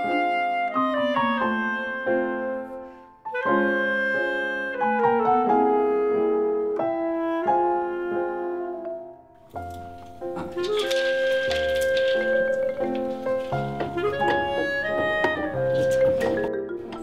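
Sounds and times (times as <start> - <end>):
clarinet melody: 0.0 - 17.0
piano: 0.0 - 17.0.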